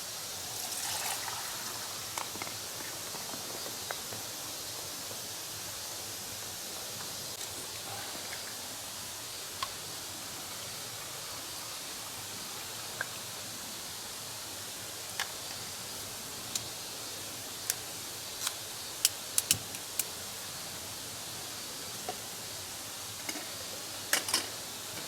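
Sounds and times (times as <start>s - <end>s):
campfire hissing: 0.0s - 25.0s.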